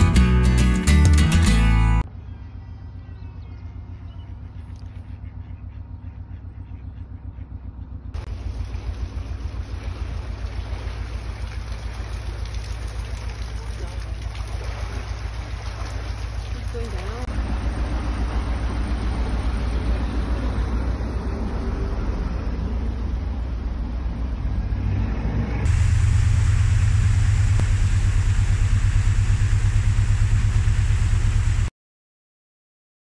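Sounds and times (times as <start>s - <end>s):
boat engine idling: 0.0s - 24.4s, 25.6s - 31.7s.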